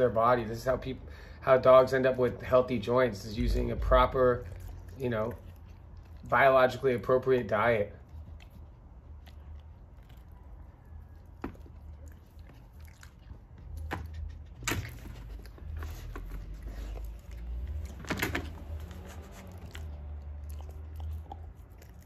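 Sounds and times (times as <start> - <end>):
dog chewing bones: 3.5 - 22.0.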